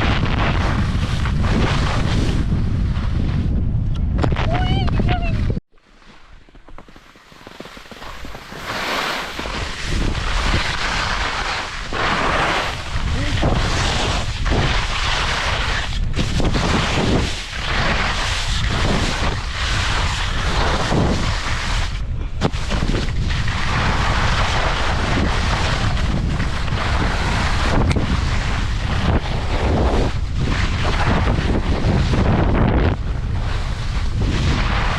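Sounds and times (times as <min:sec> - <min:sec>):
wind rushing over microphone: 0:00.0 - 0:05.6, 0:07.9 - 0:34.9.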